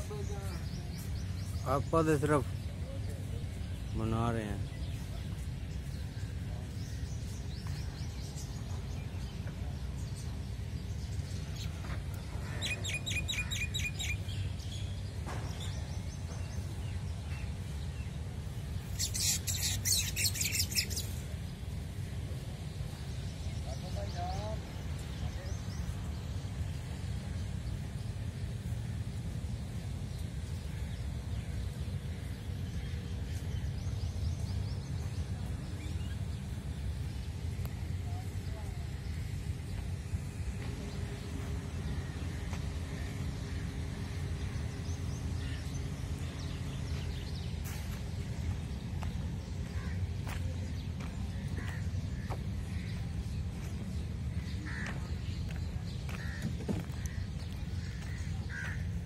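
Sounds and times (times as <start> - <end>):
low background rumble: 0.0 - 59.0
small birds chirping: 0.0 - 59.0.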